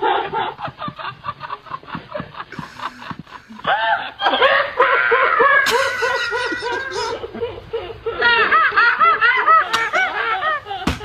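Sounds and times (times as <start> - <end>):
people laughing hard: 0.0 - 11.0.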